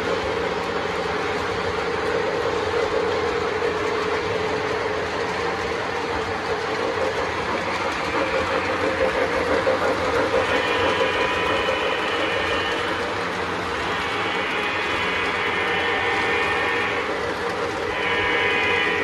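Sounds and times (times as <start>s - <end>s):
model trains whirring on rails: 0.0s - 19.0s.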